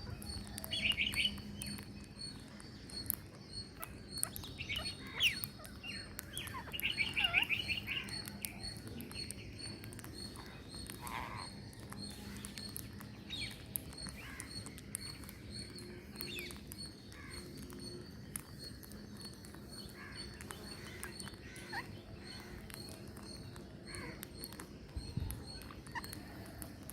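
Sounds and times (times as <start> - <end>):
parrots chirping: 0.0 - 9.0, 10.3 - 12.8, 13.5 - 23.2, 25.3 - 26.5.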